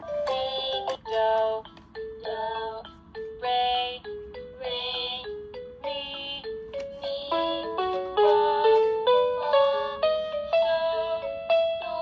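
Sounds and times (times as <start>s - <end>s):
bell-like children's tune: 0.0s - 12.0s.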